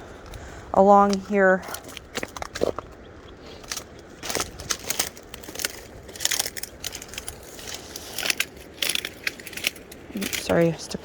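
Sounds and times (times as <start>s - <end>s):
footsteps crunching through dry brush: 0.0s - 11.0s.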